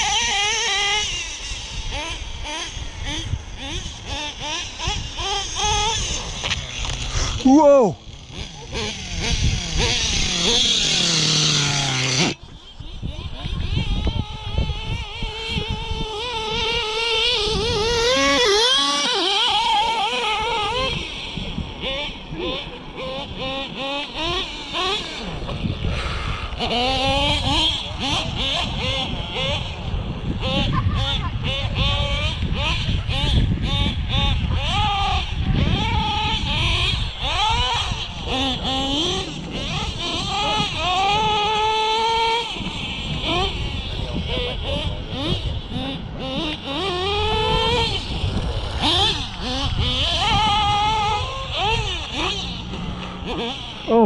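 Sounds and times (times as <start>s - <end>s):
rc car motor whining: 0.0s - 54.0s
small engine buzzing: 0.0s - 54.0s.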